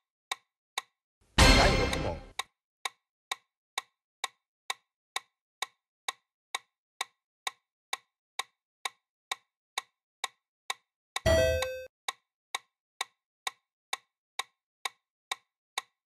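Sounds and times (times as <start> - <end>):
clock-like timer ticks: 0.3 - 16.0.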